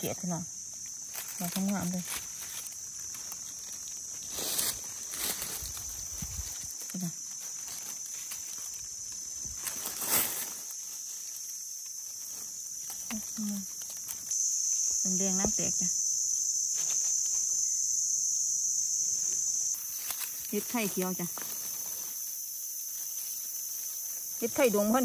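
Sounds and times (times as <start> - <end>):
high-pitched insect drone: 0.0 - 25.0
dry leaves crackling: 0.6 - 15.0, 19.2 - 25.0.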